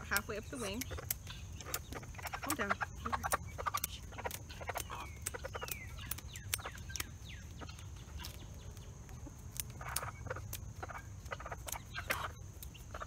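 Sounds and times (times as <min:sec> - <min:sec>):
chickens clucking: 0:00.0 - 0:13.0
scissors snipping feathers: 0:00.0 - 0:13.0.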